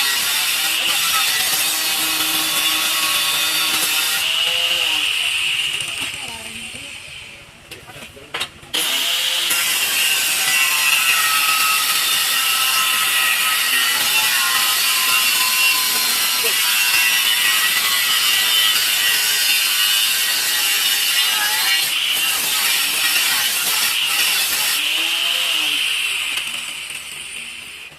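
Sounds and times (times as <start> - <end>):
tile cutter whining: 0.0 - 7.0, 8.7 - 27.9.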